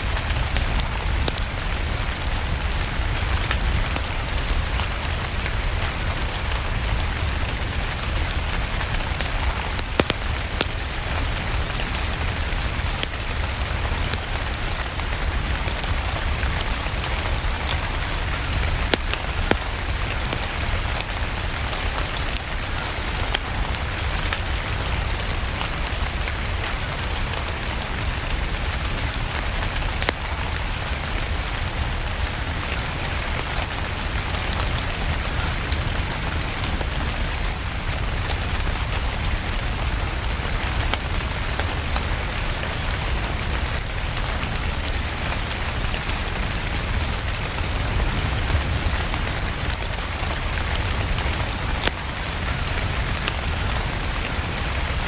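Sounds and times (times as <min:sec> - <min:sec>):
fireplace crackling: 0:00.0 - 0:55.0
steady rain: 0:00.0 - 0:55.0.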